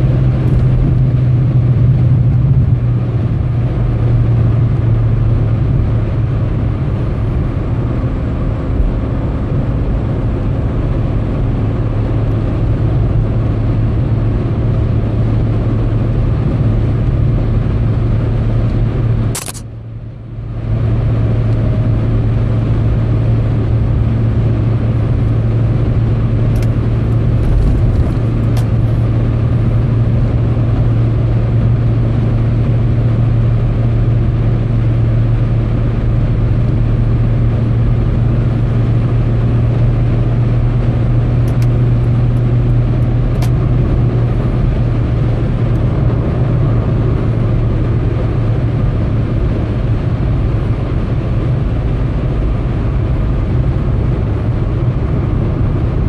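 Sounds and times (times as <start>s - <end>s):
car cabin road and engine drone: 0.0s - 56.0s.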